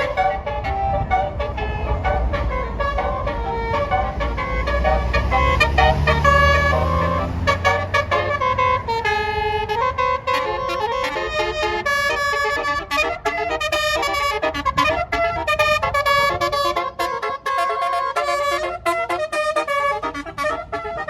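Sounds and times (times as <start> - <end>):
bus engine rumbling: 0.0 - 21.0
musical bus horn melody: 0.0 - 21.0.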